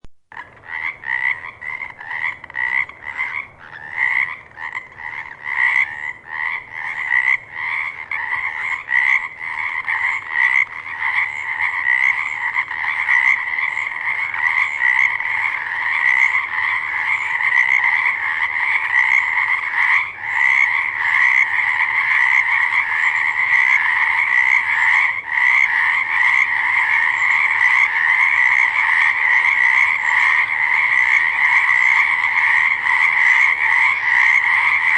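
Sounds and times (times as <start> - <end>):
frogs croaking in chorus: 0.3 - 34.9.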